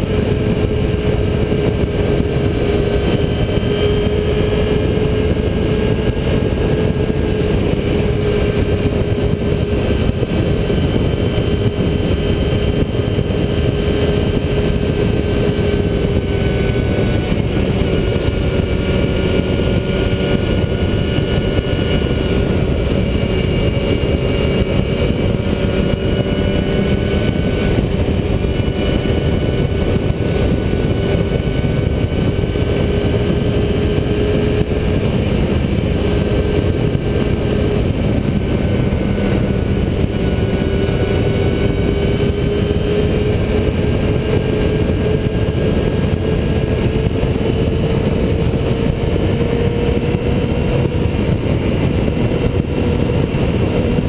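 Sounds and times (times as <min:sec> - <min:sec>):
motorcycle engine cruising: 0:00.0 - 0:54.0
wind rushing on microphone: 0:00.0 - 0:54.0.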